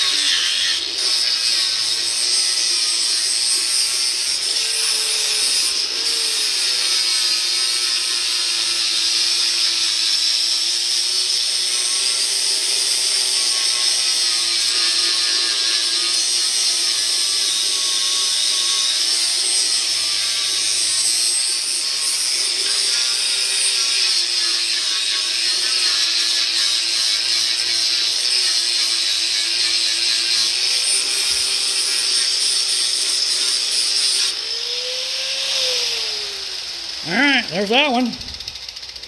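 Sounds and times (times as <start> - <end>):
angle grinder grinding steel: 0.0 - 39.0.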